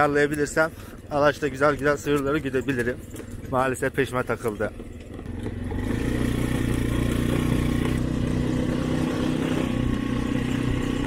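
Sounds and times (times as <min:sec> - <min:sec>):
motorcycle engine running: 0:00.4 - 0:11.0.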